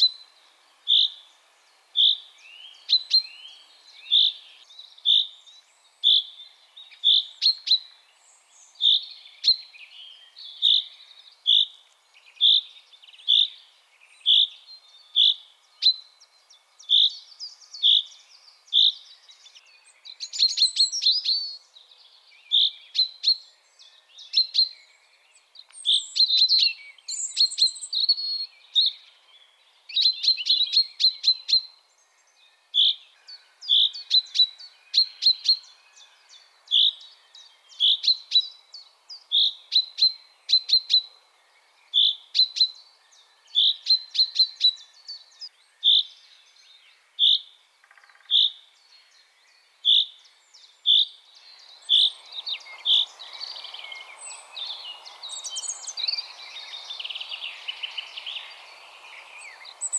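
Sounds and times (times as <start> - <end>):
chaffinch singing: 0.0 - 59.9.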